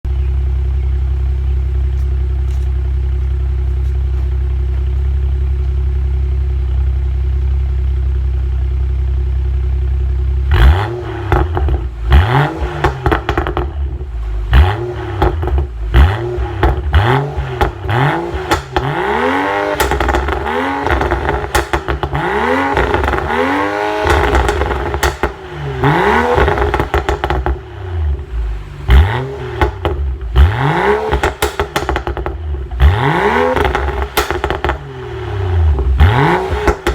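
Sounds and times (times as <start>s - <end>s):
car engine idling and revving: 0.0s - 36.9s
exhaust pops and crackles: 0.8s - 6.0s, 10.6s - 28.3s, 28.9s - 36.9s.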